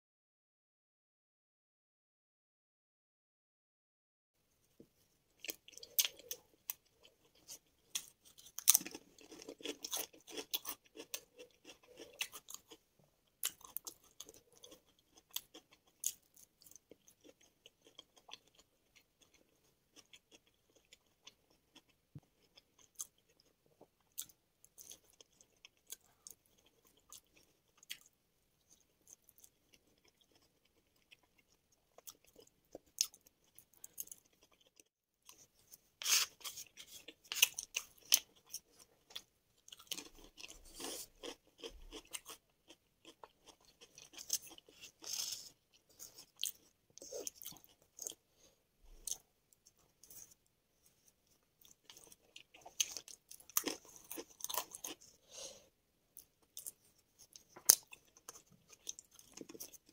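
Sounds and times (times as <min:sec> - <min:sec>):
crunchy chewing of food: 0:05.4 - 0:59.9.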